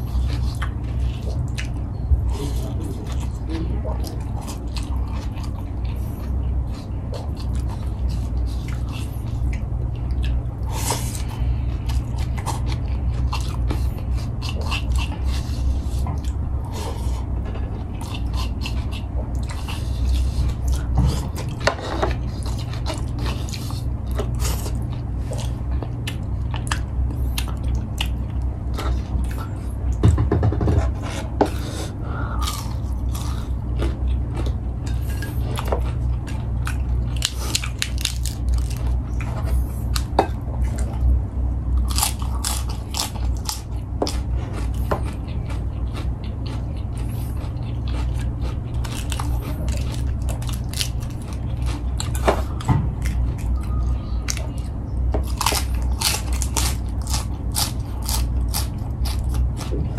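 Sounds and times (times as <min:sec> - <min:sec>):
person chewing and eating: 0:00.0 - 0:59.9
steady low hum: 0:00.0 - 0:59.9.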